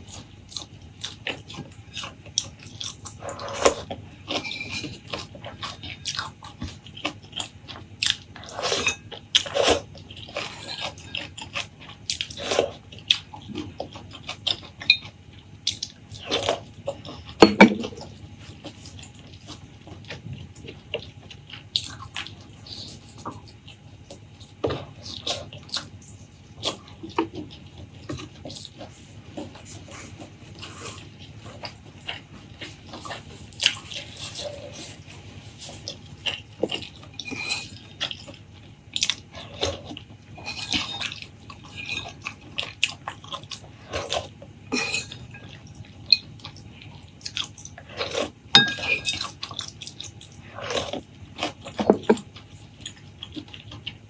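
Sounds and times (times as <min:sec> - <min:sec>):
wet chewing and mouth smacks: 0:09.3 - 0:54.0.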